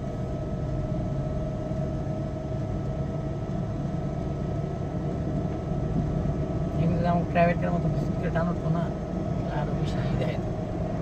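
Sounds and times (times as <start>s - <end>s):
faint constant whine: 0.0s - 11.0s
vehicle engine and road drone: 0.0s - 11.0s.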